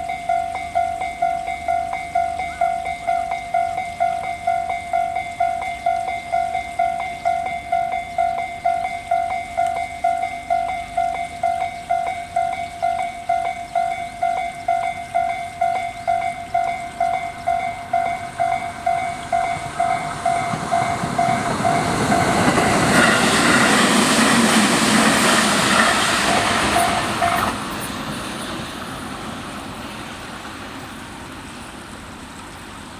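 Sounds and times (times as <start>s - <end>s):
level crossing alarm pulsing: 0.0s - 27.6s
electric train passing: 0.0s - 32.9s.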